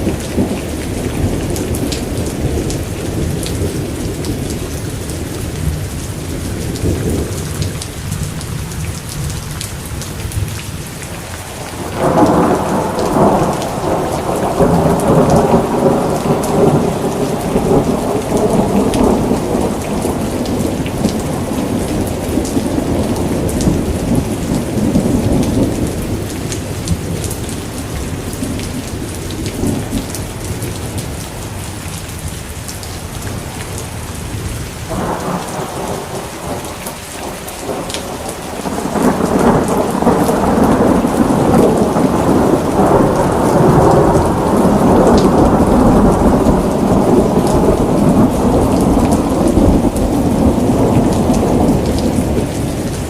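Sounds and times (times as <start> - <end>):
thunder rumbling: 0.0 - 9.3, 11.7 - 31.7, 33.2 - 53.0
steady rain falling: 0.0 - 53.0.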